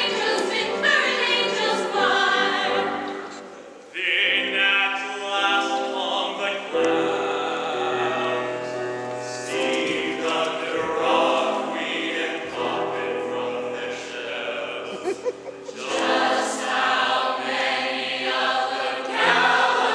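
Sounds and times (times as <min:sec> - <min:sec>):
mixed chorus singing show tune: 0:00.0 - 0:19.9.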